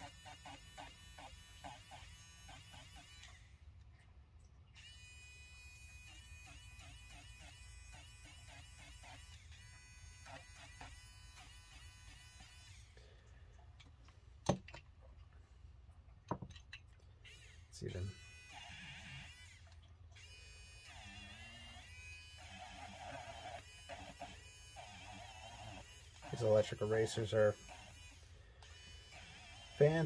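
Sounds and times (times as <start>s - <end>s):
electric eraser whirring: 0.0s - 3.4s, 4.8s - 12.9s, 17.3s - 30.0s.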